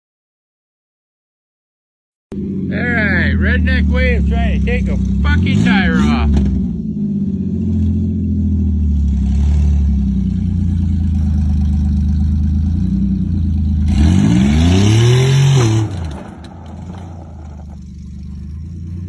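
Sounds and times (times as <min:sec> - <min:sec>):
car engine revving: 0:02.3 - 0:19.0.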